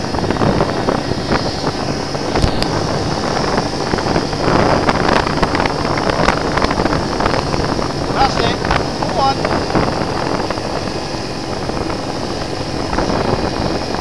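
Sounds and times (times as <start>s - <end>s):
quad bike engine rumbling: 0.0s - 14.0s
wind buffeting microphone: 0.0s - 14.0s.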